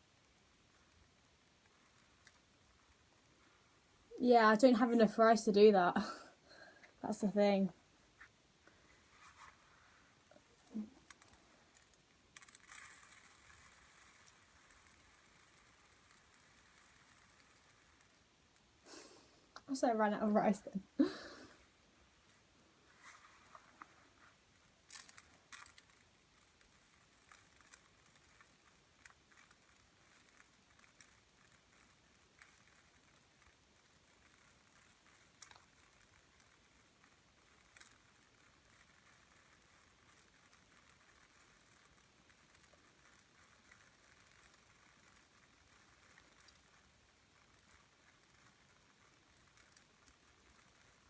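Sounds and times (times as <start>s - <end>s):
rice pattering: 0.0s - 51.0s.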